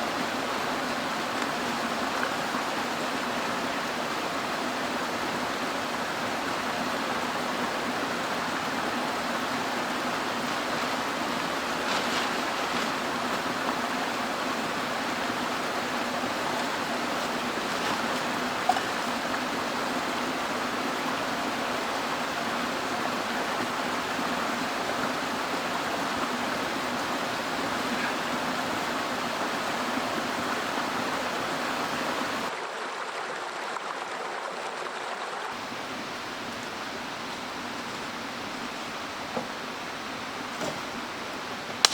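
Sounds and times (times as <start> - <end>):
stream flowing: 0.0 - 41.9.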